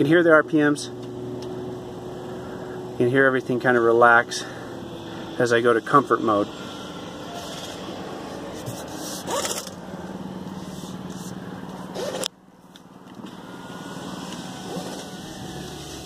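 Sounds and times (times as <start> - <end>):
engine humming quietly: 0.0 - 16.0.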